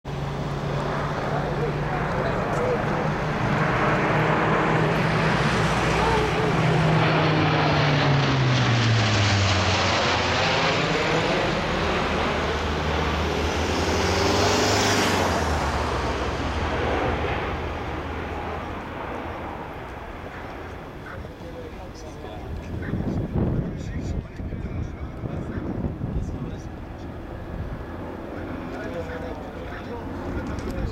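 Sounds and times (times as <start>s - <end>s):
turboprop aircraft engines droning: 0.0s - 30.9s.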